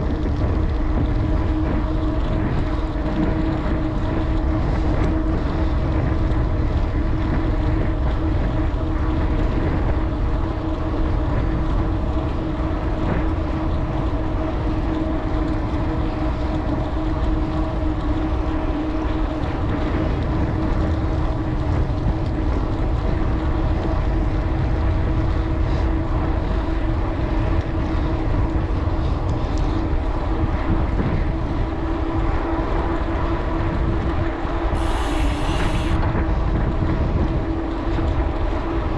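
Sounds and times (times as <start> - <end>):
steady hum: 0.0 - 38.9
wind buffeting microphone: 0.0 - 38.9.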